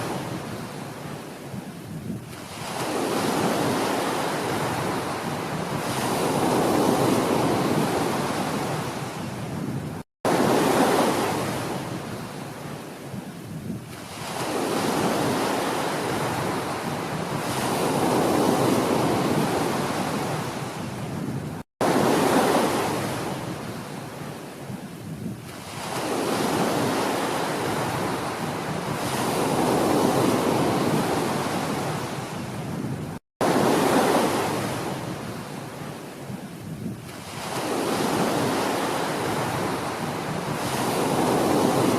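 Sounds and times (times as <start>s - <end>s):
ocean waves surging: 2.3s - 13.1s, 13.9s - 24.6s, 25.5s - 36.3s, 37.1s - 41.9s.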